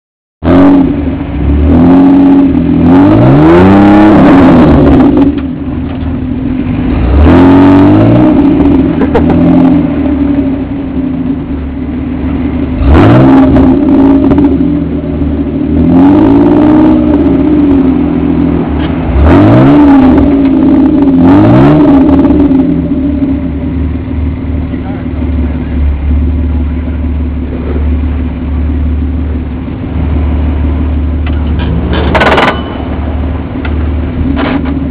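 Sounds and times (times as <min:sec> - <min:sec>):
truck engine revving hard: 0:00.4 - 0:05.5, 0:06.6 - 0:11.6, 0:12.3 - 0:24.1, 0:24.8 - 0:34.9.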